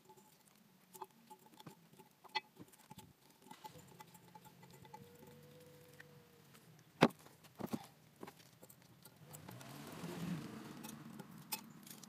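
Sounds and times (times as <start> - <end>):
rough metal scraping: 0.0 - 7.8, 8.5 - 12.0.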